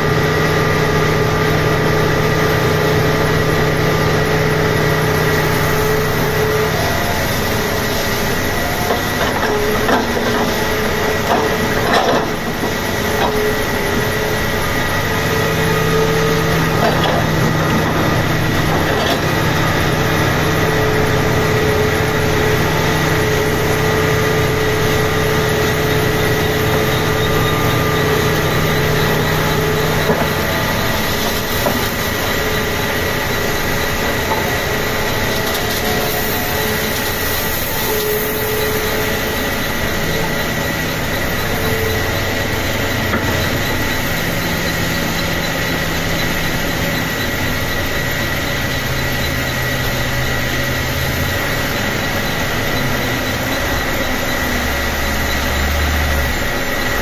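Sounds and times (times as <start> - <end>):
excavator diesel engine running: 0.0 - 57.0
thin steady whine: 0.0 - 57.0.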